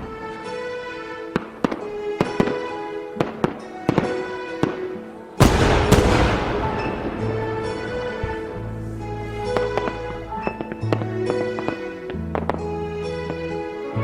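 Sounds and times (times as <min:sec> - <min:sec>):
music playing: 0:00.0 - 0:14.0
fireworks bangs: 0:01.3 - 0:12.7
fireworks crackling burst: 0:01.3 - 0:12.7.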